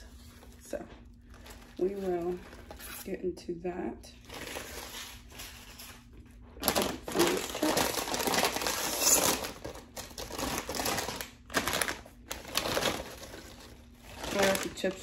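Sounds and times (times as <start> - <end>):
chip bag crinkling: 1.2 - 3.1, 4.2 - 15.0.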